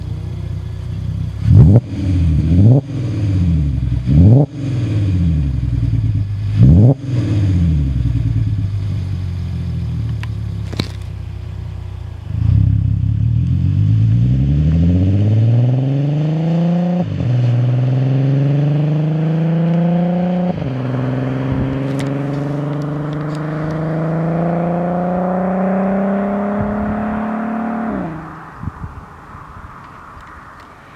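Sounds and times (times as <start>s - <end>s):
car engine revving: 0.0s - 30.9s
car accelerating through gears: 1.4s - 8.7s, 12.3s - 30.9s.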